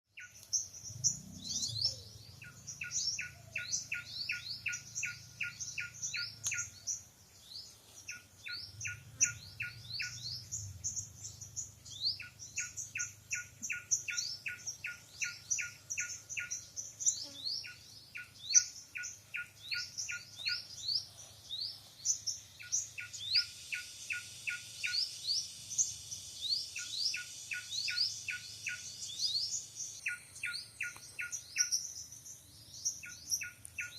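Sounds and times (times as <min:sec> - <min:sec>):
songbirds chirping: 0:00.1 - 0:33.9
steady high hiss: 0:00.3 - 0:33.9.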